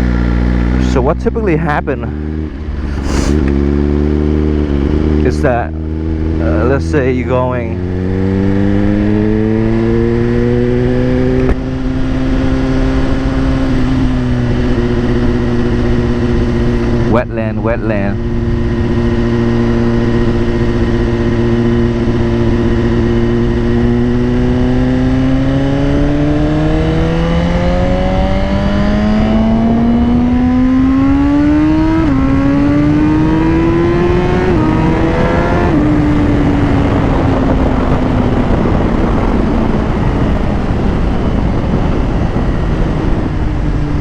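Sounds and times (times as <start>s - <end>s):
motorcycle engine accelerating: 0.0s - 44.0s
wind noise: 0.0s - 44.0s.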